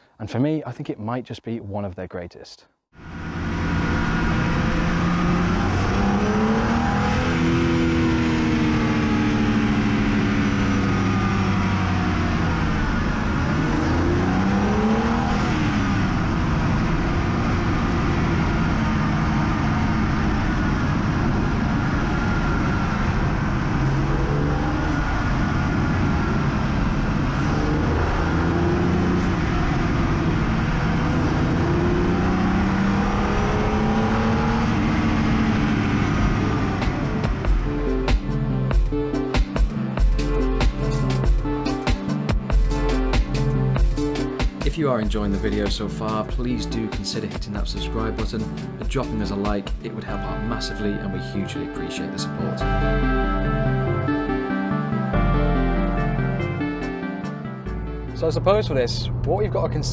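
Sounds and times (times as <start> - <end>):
car engine revving: 3.0 - 59.9.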